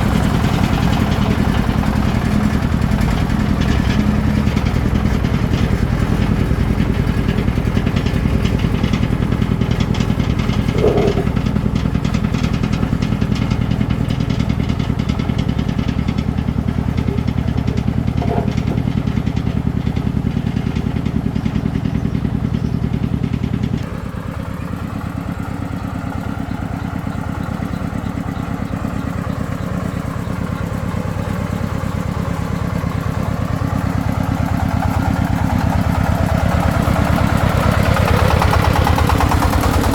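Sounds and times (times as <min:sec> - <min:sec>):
diesel engine thudding: 0:00.0 - 0:39.9.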